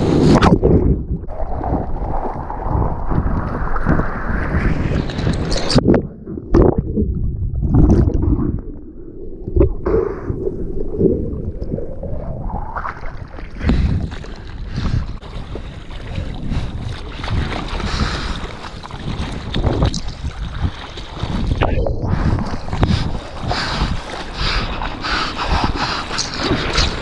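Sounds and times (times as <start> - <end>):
muffled underwater splashes: 0.0 - 27.0
water rushing and splashing: 0.0 - 27.0.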